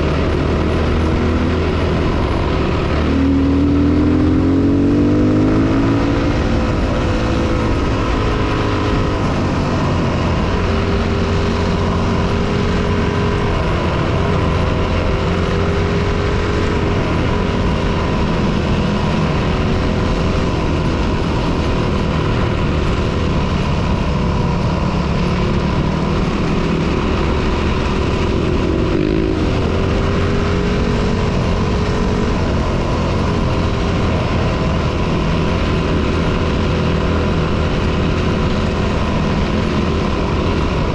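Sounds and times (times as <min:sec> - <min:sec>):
dirt bike engine running: 0:00.0 - 0:40.9
wind rush: 0:00.0 - 0:40.9.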